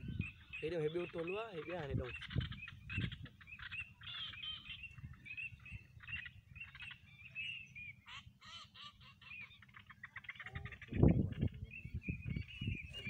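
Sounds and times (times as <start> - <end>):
flock of ducks calling: 0.0 - 13.0.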